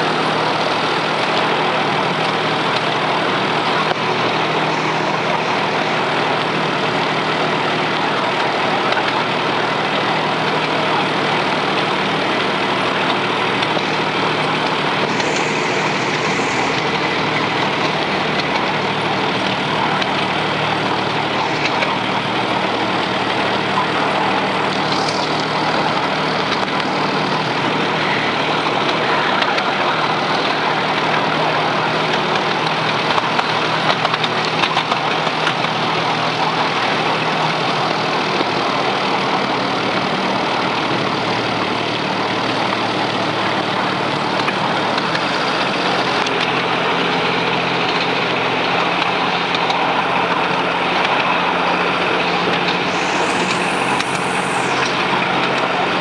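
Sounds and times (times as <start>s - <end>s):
locomotive engine humming: 0.0s - 56.0s
train rushing along rails: 0.0s - 56.0s.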